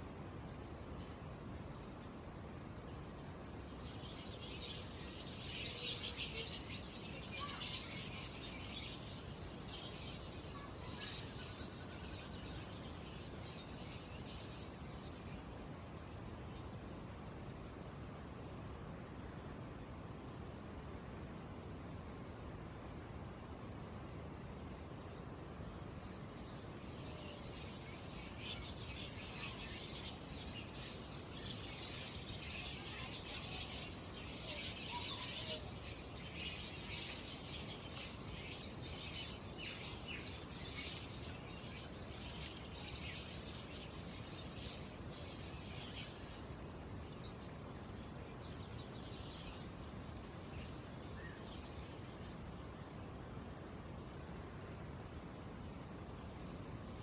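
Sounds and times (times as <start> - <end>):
crickets chirring: 0.0 - 57.0
small birds chirping: 0.0 - 57.0.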